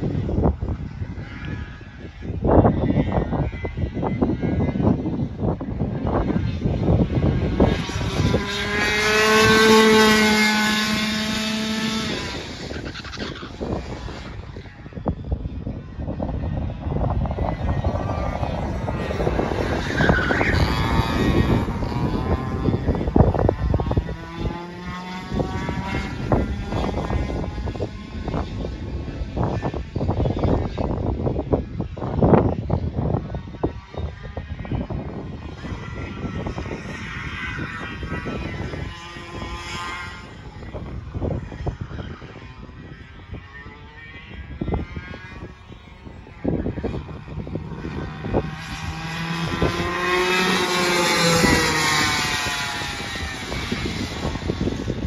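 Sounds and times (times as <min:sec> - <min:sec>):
kart engine driving past: 0:00.0 - 0:55.0.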